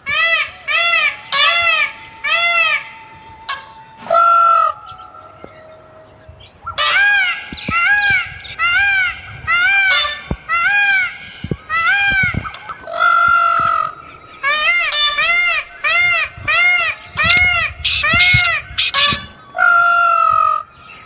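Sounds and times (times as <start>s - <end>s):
bird calling loudly: 4.0s - 21.0s.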